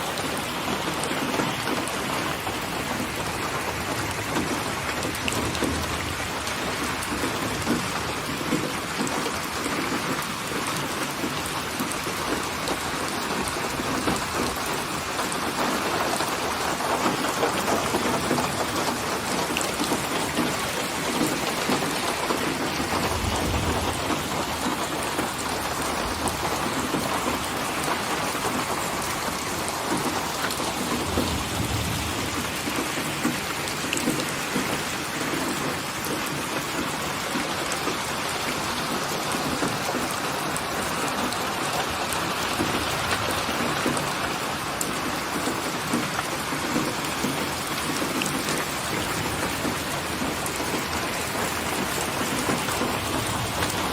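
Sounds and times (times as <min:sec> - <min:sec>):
steady rain pattering: 0:00.0 - 0:53.9.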